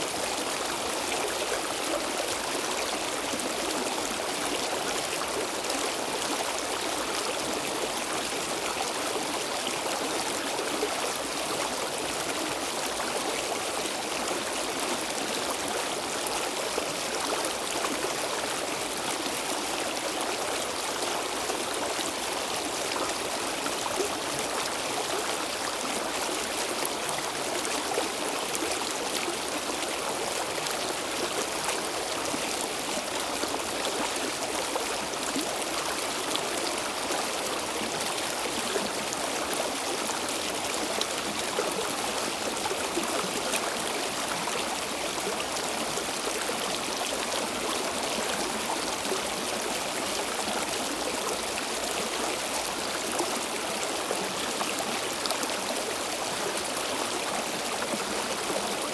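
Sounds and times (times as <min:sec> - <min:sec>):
stream water flowing over rocks: 0:00.0 - 0:58.9.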